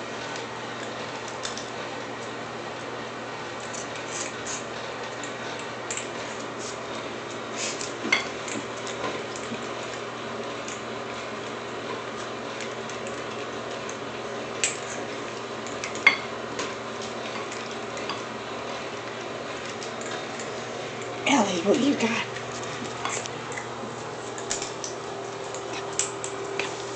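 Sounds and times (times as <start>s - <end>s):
steady background hum: 0.0s - 26.9s.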